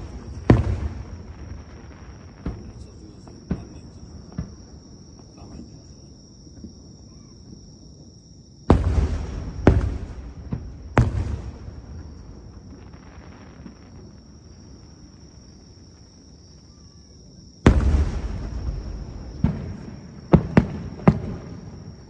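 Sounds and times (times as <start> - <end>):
faint fireworks pops: 0.0 - 8.0, 8.6 - 22.0
fireworks booms: 0.0 - 22.0.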